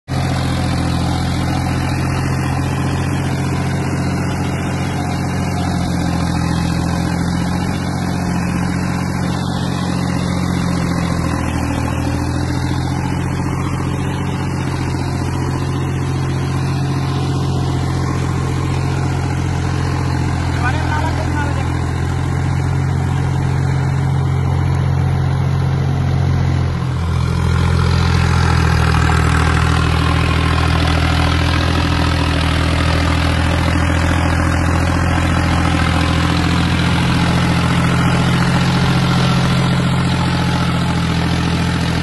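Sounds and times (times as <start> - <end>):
tractor diesel engine under load: 0.0 - 42.0.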